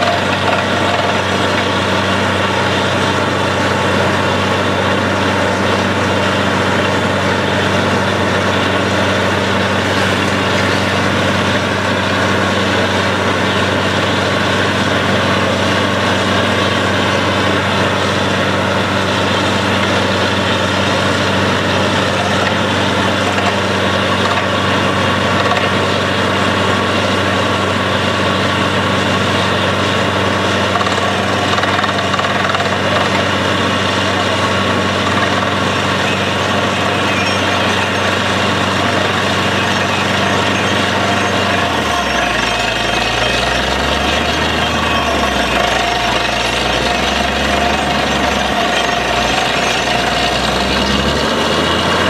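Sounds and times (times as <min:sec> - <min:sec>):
drilling rig engine hum: 0:00.0 - 0:52.0.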